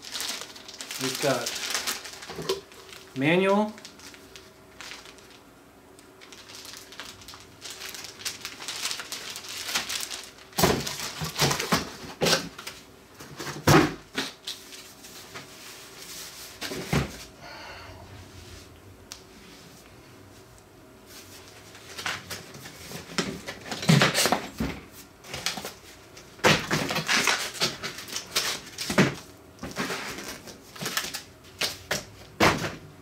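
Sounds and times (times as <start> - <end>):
cardboard and packing rustling: 0.0 - 5.4, 6.2 - 17.3, 21.1 - 32.8.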